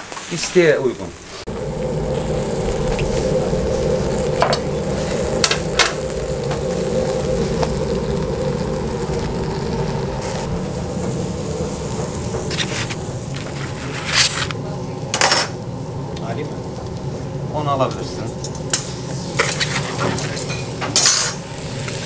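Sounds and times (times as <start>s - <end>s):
meat sizzling on charcoal grill: 0.0s - 22.0s
steady low hum: 1.4s - 22.0s.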